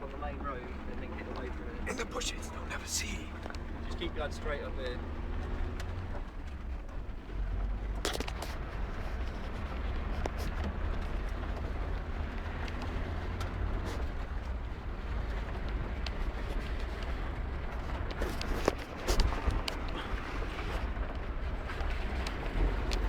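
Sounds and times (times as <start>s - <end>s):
car engine low rumble: 0.0s - 23.0s
knocks and rattles over rough ground: 3.4s - 23.0s.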